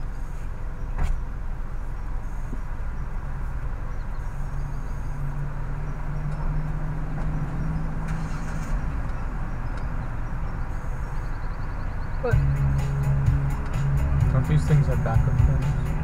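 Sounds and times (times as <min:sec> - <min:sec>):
car engine rumble inside cabin: 0:00.0 - 0:16.0.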